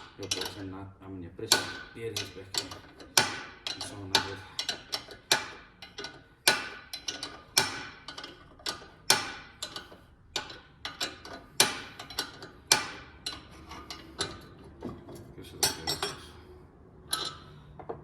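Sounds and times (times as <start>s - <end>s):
metal tools tapping on metal: 0.0s - 0.7s, 1.4s - 16.4s, 17.0s - 18.0s.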